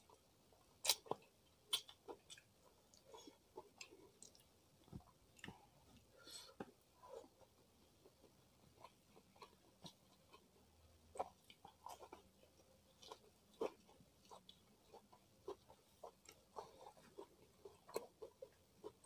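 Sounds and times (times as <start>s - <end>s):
chewing and mouth sounds: 0.0s - 19.0s.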